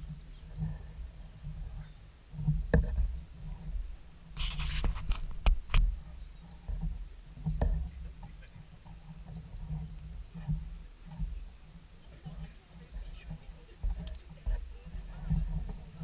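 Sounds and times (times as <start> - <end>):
scraping rustle: 0.0 - 16.0
wind rumbling on microphone: 0.0 - 16.0.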